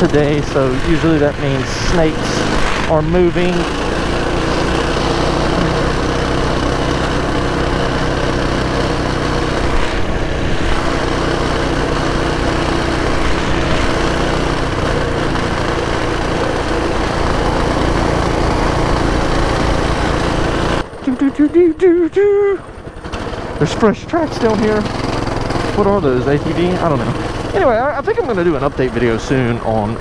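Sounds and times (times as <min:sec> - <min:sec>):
minibike engine running: 0:00.0 - 0:30.0.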